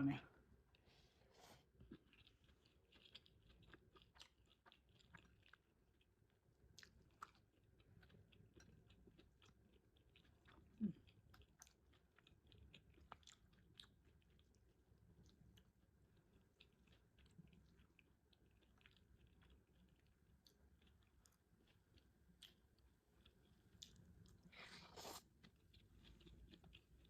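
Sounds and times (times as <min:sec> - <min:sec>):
person chewing food: 0:00.4 - 0:27.0.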